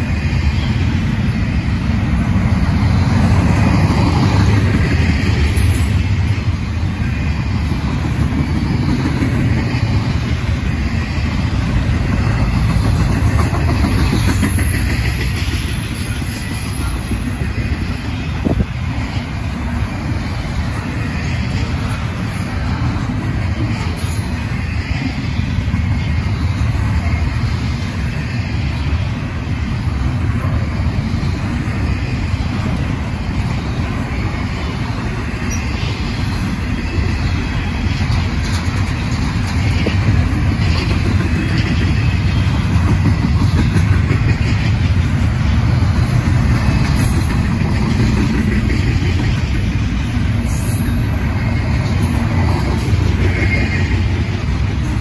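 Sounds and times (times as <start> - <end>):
freight train cars rolling: 0.0 - 55.0.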